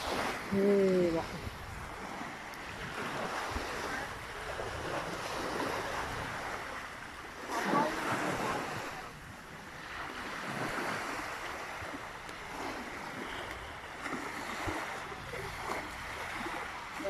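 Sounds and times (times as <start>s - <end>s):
sea waves washing onto shore: 0.0s - 17.0s
wind buffeting microphone: 0.0s - 17.0s.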